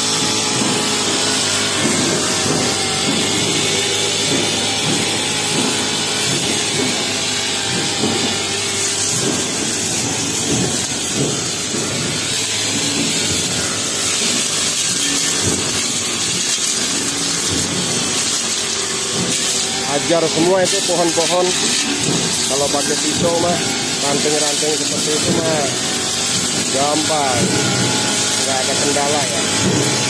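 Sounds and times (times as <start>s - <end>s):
blade swishing and rasping: 0.0s - 30.0s
brushcutter engine running: 0.0s - 30.0s.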